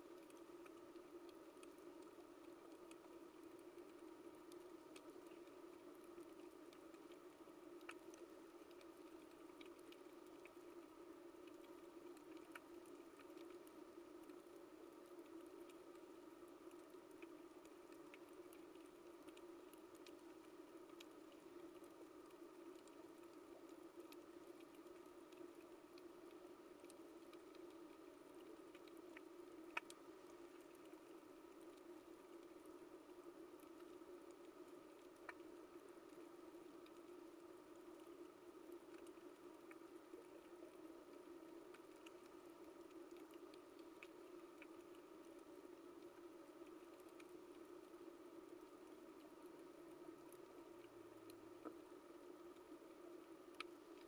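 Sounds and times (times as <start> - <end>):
sharp clicks and crackles: 0.1 - 54.0.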